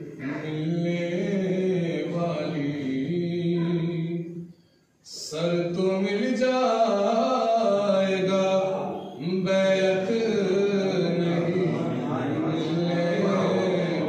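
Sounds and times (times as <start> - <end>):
man chanting poetry: 0.0 - 4.4, 5.0 - 14.0.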